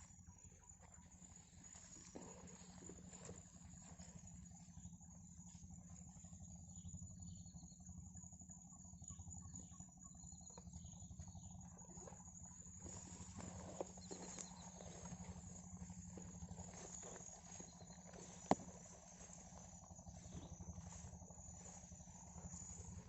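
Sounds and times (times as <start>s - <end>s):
faint chirps: 0.0s - 23.0s
high-pitched insect chorus: 0.0s - 23.0s.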